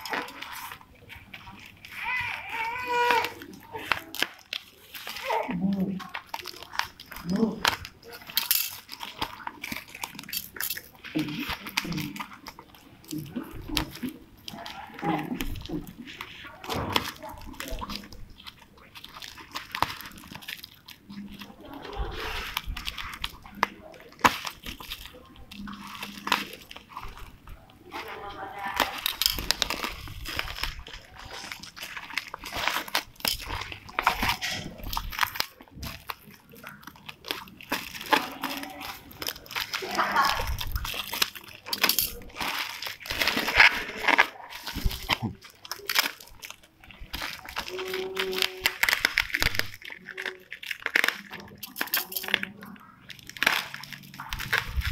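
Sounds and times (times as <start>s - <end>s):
plastic wrap crinkling and tearing: 0.0s - 54.9s
scissors cutting plastic: 0.0s - 54.9s.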